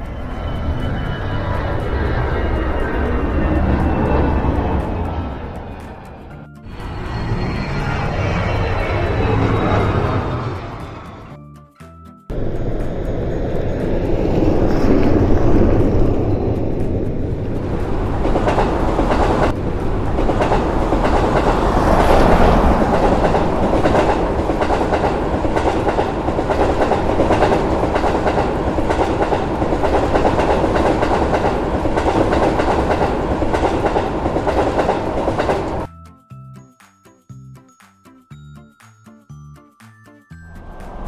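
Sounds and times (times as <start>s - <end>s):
train wheels rumbling on rails: 0.0s - 11.4s, 12.3s - 35.9s.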